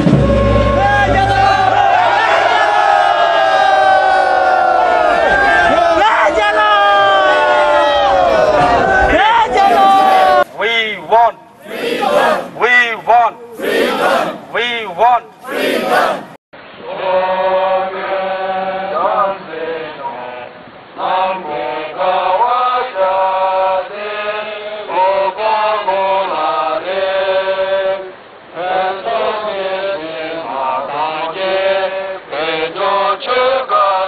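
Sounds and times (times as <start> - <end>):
voices chanting: 0.0 - 34.0.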